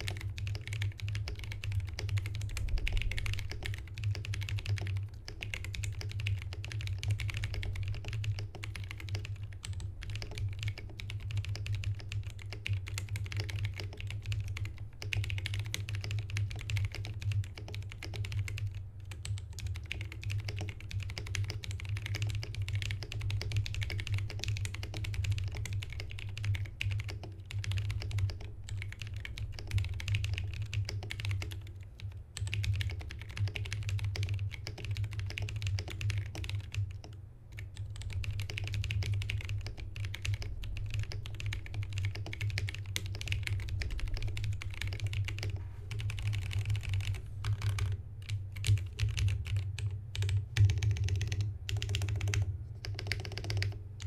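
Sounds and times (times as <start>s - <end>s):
mechanical keyboard typing: 0.0s - 53.8s
steady low hum: 0.0s - 54.0s.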